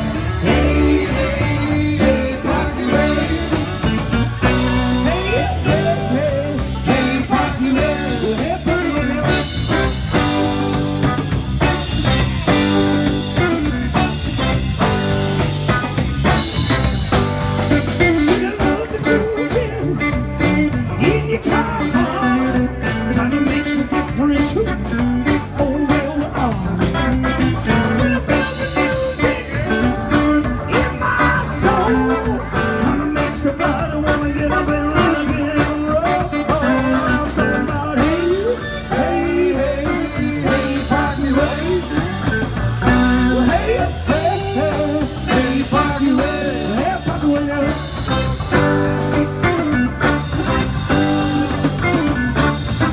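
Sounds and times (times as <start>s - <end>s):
drum kit beat: 0.0s - 52.9s
electric guitars: 0.0s - 52.9s.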